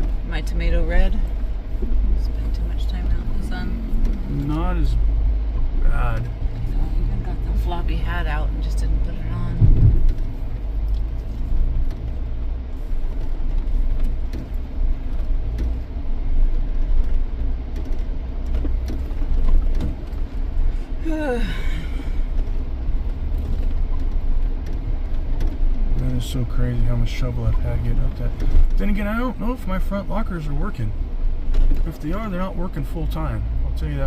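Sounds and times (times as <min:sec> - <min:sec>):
engine and drivetrain rumbling: 0:00.0 - 0:34.0.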